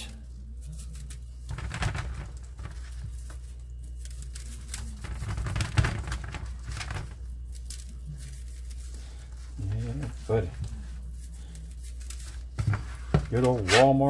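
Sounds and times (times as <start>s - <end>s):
hands rubbing meat in metal pan: 0.0s - 14.0s
steady low hum: 0.0s - 14.0s.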